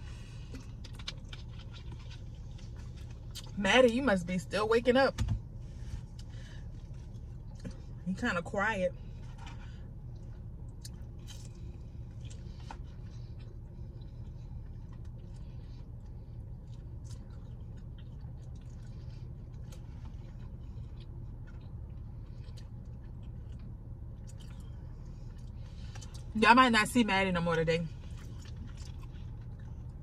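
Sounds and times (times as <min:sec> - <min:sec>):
faint chewing: 0:00.0 - 0:03.6, 0:05.9 - 0:08.0, 0:09.1 - 0:26.4, 0:27.9 - 0:30.0
low car cabin hum: 0:00.0 - 0:30.0.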